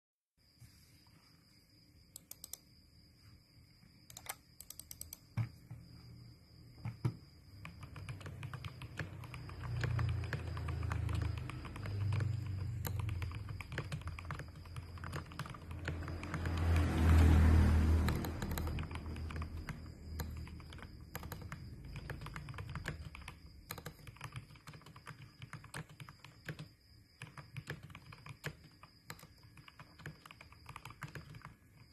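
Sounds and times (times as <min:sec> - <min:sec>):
mechanical keyboard typing: 0:02.2 - 0:02.6, 0:04.1 - 0:05.5, 0:06.8 - 0:31.9.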